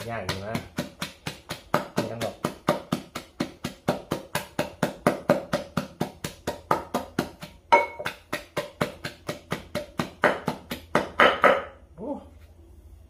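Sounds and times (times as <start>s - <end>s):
wooden pestle pounding in mortar: 0.0s - 11.8s.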